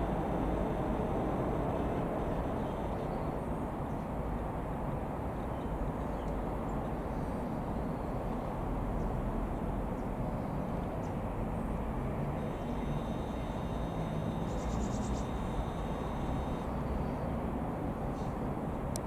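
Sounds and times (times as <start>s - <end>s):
distant light aircraft engine drone: 0.0s - 19.0s.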